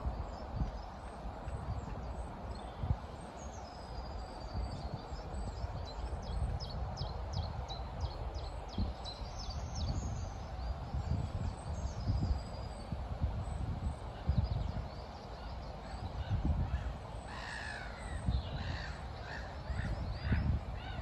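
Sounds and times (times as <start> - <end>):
steady outdoor hum: 0.0 - 21.0.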